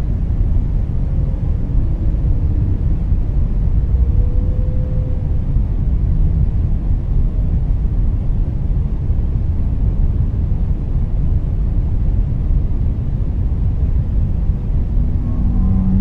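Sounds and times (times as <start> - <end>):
deep rumbling ambient noise: 0.0 - 16.0.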